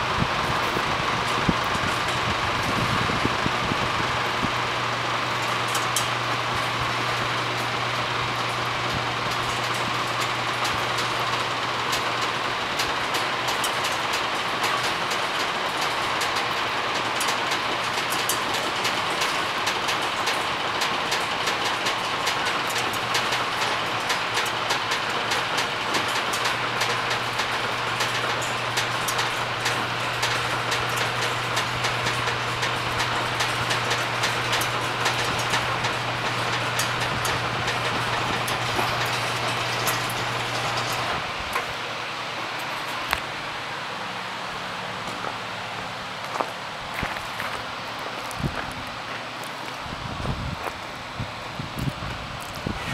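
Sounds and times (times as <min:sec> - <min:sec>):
low motor hum: 0:00.0 - 0:52.9.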